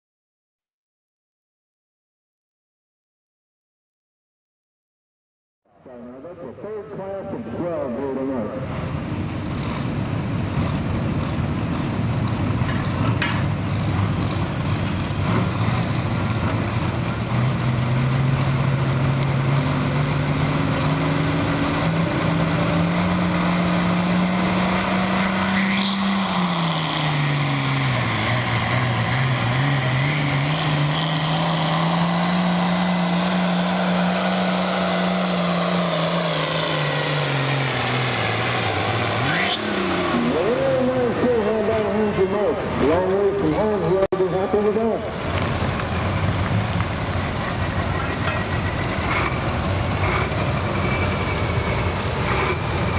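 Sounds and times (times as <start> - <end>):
tractor diesel engine revving: 5.9 - 52.9.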